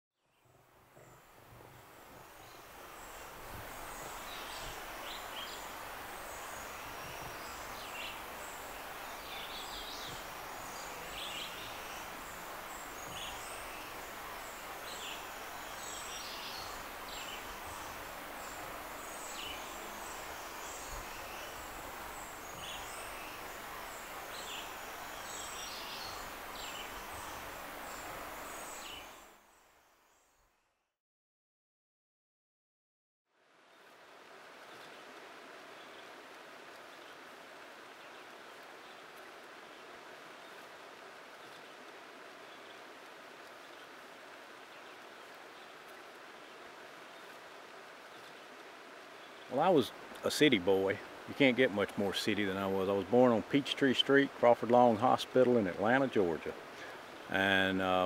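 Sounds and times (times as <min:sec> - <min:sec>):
steady hiss: 0:00.5 - 0:30.3, 0:33.4 - 0:58.0.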